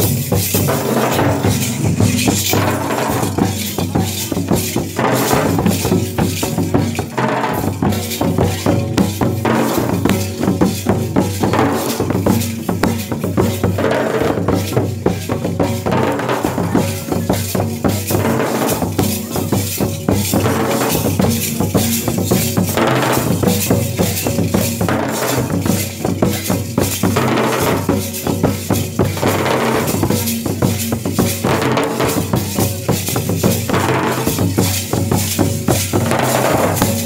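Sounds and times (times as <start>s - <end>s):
drum beaten with sticks: 0.0s - 37.0s
hand drums playing: 0.0s - 37.0s.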